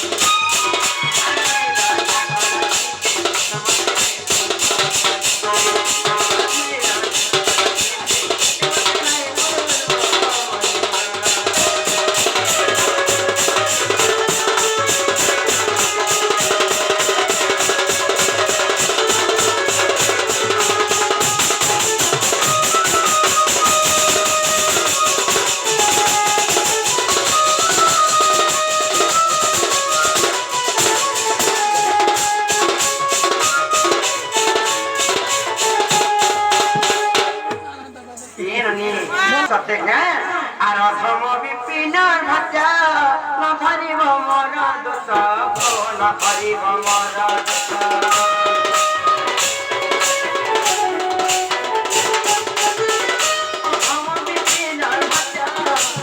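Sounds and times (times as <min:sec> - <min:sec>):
folk melody line: 0:00.0 - 0:38.2, 0:45.6 - 0:56.0
drum and cymbal rhythm: 0:00.0 - 0:39.4, 0:44.9 - 0:56.0.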